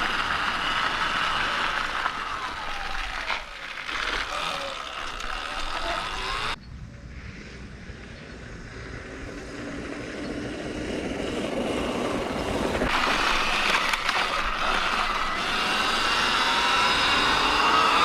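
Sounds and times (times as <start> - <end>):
electric motor and chain whine: 0.0 - 6.6, 7.6 - 18.0
tyres on dirt: 0.0 - 6.6, 7.2 - 18.0.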